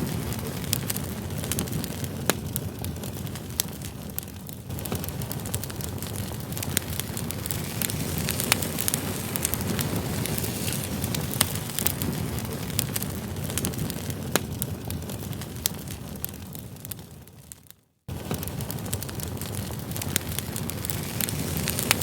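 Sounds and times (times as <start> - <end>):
campfire flame rushing: 0.0 - 17.4, 18.1 - 22.0
wood crackling and popping: 0.0 - 22.0.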